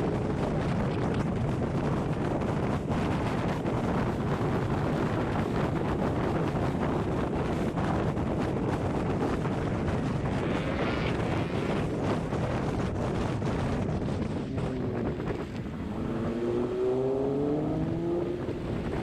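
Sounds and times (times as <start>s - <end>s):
moving vehicle noise: 0.0s - 19.0s
wind buffeting microphone: 0.0s - 19.0s.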